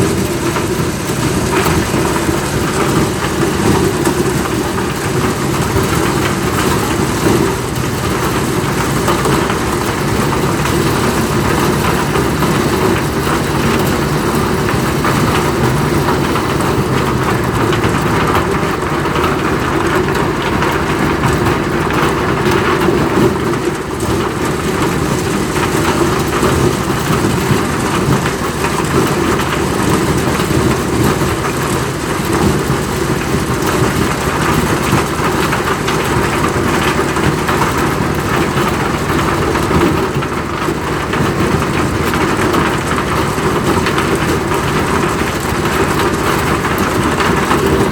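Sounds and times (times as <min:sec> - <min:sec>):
corn sheller machine running: 0:00.0 - 0:47.9.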